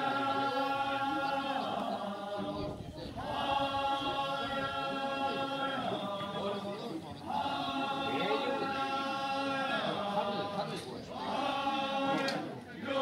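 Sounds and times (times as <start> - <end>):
voices chanting in long notes: 0.0 - 13.0.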